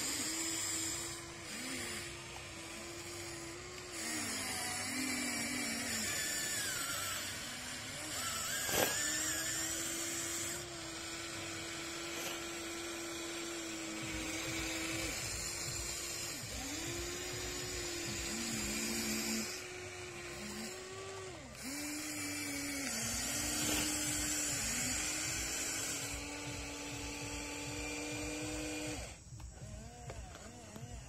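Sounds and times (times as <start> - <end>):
small electric motors whining: 0.0 - 31.0.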